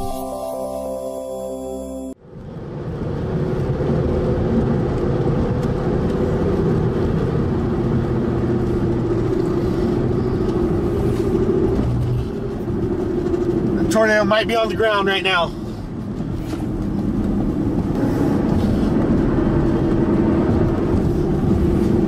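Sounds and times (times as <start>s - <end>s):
vehicle engine hum: 2.0s - 22.0s
road and wind noise: 2.1s - 22.0s.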